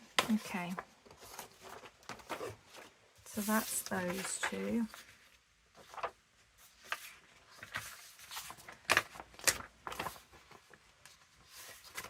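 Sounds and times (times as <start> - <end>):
paper rustling: 0.2 - 12.0.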